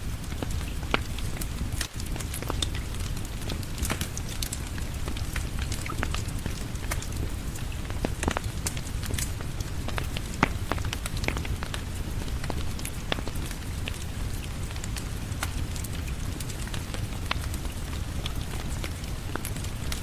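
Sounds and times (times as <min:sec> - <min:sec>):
steady rain: 0:00.0 - 0:20.0
wood fire crackling and popping: 0:00.0 - 0:20.0.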